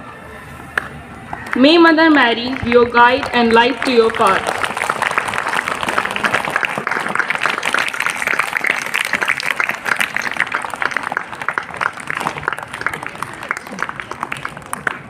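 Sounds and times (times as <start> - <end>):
people clapping: 0.8 - 15.0.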